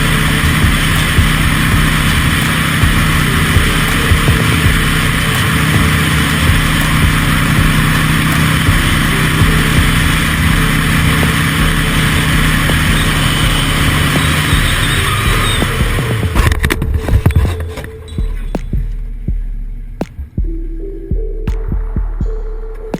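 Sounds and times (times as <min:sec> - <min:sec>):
road and wind noise: 0:00.0 - 0:21.3
low engine hum: 0:00.0 - 0:22.9.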